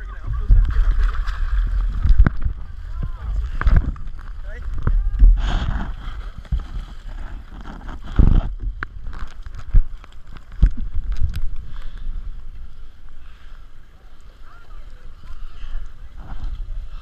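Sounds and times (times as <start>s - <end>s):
wind rumble on microphone: 0.0s - 13.1s, 14.8s - 17.0s
seawater splashing over concrete: 0.0s - 17.0s.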